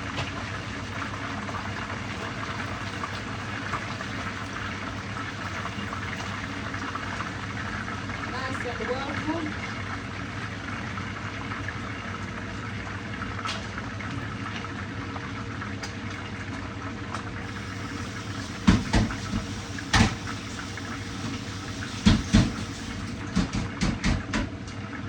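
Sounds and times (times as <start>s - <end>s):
fish sizzling in hot oil: 0.0s - 15.0s, 17.4s - 23.5s.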